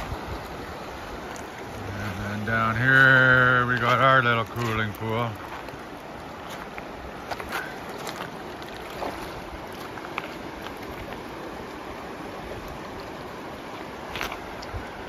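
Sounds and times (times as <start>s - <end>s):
river water lapping against stones: 0.0s - 15.0s.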